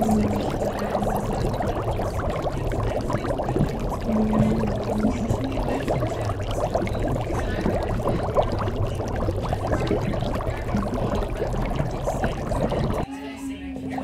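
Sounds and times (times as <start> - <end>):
liquid pouring: 0.0 - 13.1.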